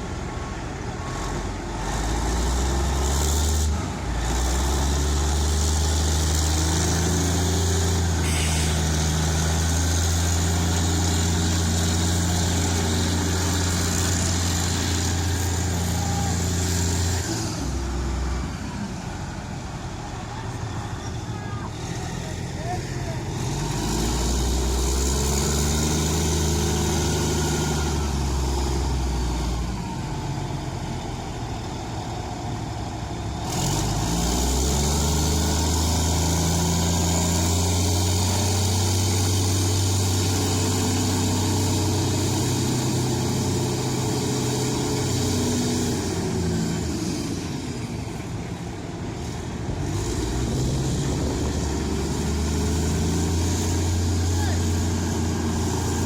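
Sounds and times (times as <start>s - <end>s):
diesel engine revving under load: 0.0s - 21.0s, 21.7s - 56.0s.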